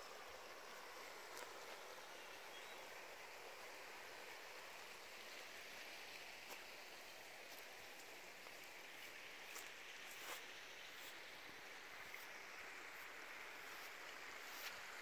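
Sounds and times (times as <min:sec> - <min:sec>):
creek flowing: 0:00.0 - 0:15.0.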